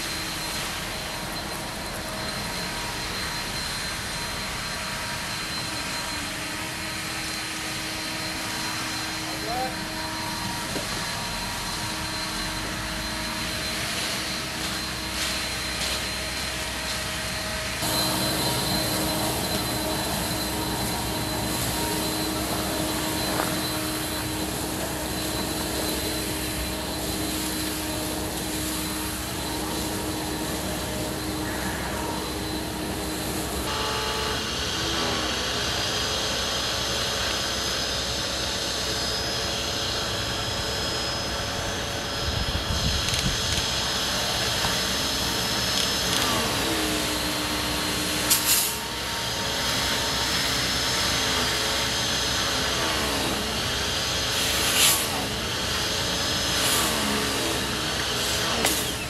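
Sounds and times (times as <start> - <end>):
leaf blower engine running: 0.0 - 59.0.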